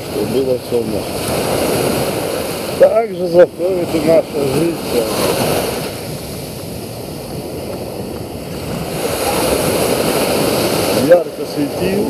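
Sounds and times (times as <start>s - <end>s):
surf washing up a beach: 0.0s - 12.0s.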